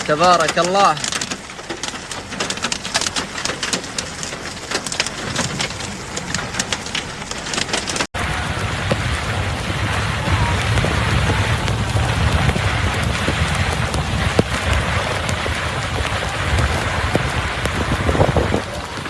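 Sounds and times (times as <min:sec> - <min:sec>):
heavy rain: 0:00.0 - 0:19.0
low rumble: 0:01.4 - 0:19.0.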